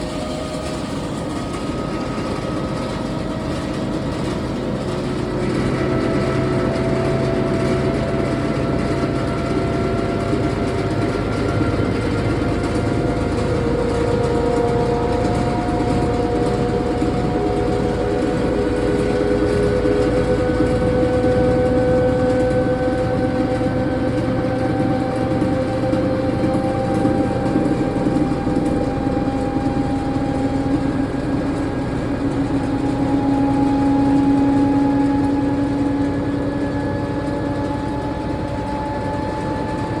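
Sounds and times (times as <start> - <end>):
washer spinning with whining tones: 0.0 - 40.0.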